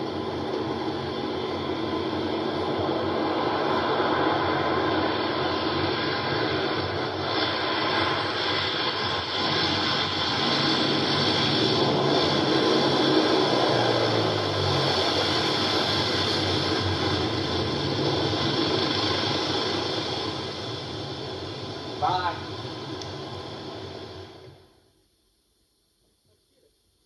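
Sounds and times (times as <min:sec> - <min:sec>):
turboprop plane engine drone: 0:00.0 - 0:25.0.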